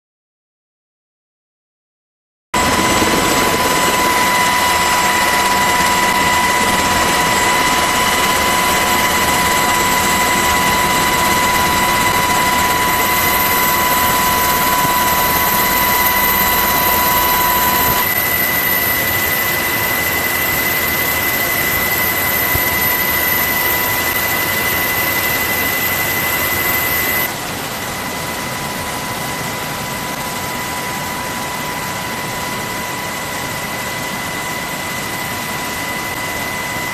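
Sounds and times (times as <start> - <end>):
helicopter rotor and turbine noise: 2.6 - 36.9
high whine: 2.6 - 36.9.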